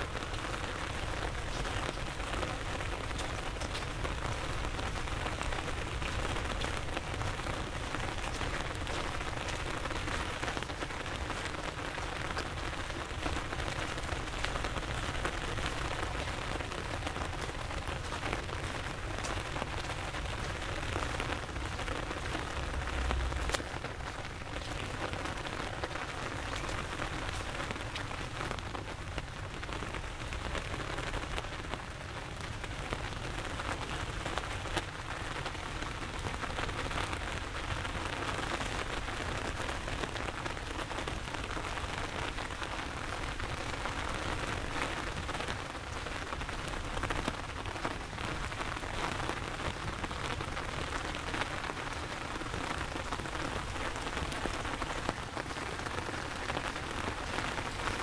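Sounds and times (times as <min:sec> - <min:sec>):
heavy rain splashing: 0:00.0 - 0:58.0.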